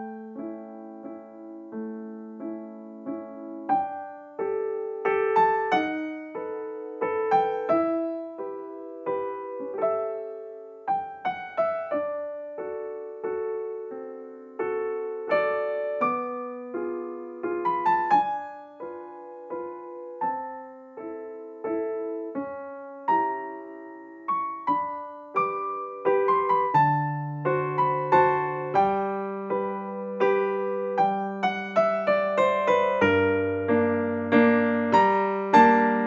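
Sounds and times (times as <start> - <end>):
slow gentle piano melody: 0.0 - 36.0.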